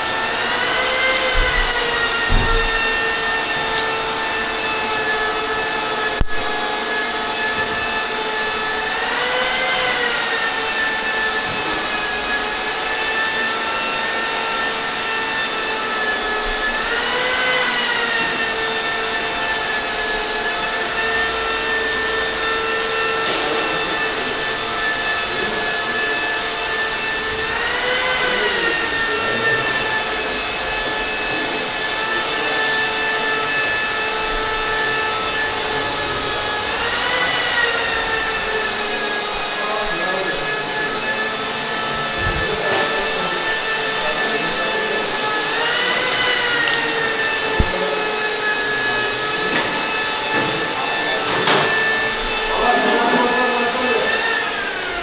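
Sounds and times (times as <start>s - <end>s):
power tool motor whining: 0.0s - 55.0s.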